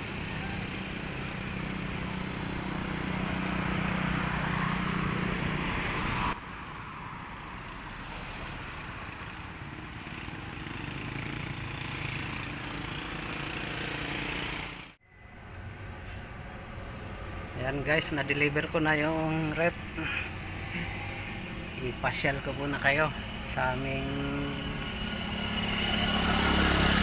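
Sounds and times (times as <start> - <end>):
road and wind noise: 0.0 - 27.0.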